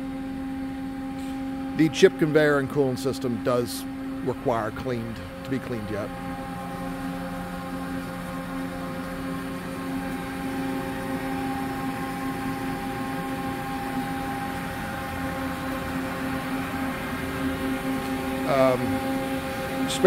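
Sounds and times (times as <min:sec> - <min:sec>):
machine pumps and fans humming: 0:00.0 - 0:20.0.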